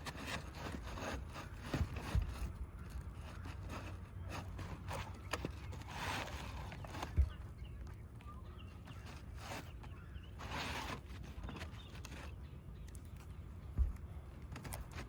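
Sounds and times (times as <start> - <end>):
shingles rustling and scraping: 0.0 - 15.0.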